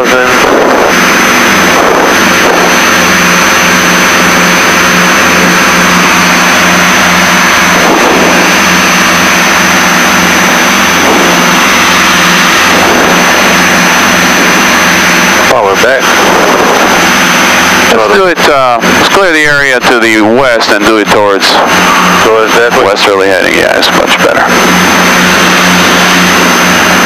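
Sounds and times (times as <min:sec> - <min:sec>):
propeller engines droning: 0:00.0 - 0:27.0.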